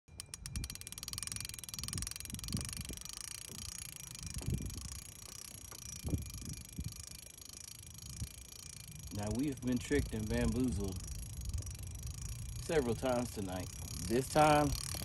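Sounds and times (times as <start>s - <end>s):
pulsing insect chirring: 0.1s - 15.0s.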